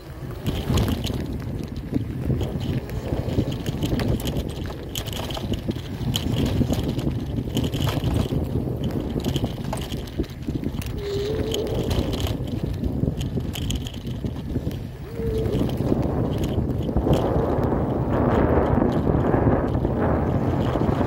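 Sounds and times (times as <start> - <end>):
bicycle tyre and frame rumble: 0.0 - 21.0
small rattles and clicks: 0.0 - 21.0
wind buffeting microphone: 0.0 - 21.0.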